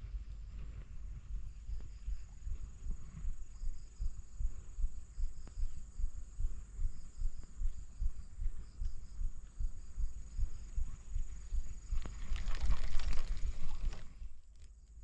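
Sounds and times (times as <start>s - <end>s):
soft low thumps: 0.0s - 14.4s
insects chirping: 0.0s - 15.0s.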